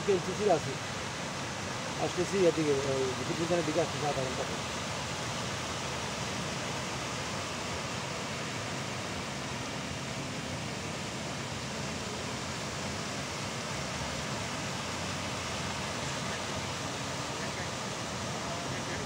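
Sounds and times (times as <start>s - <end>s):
fountain jets splashing: 0.0s - 19.0s.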